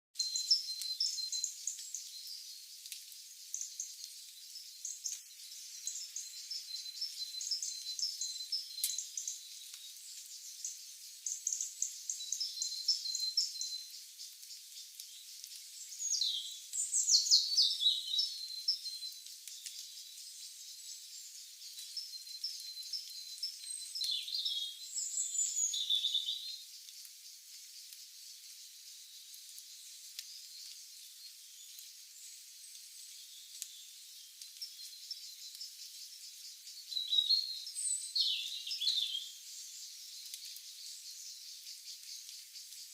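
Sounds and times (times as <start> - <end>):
birds chirping and singing: 0.2 - 42.9.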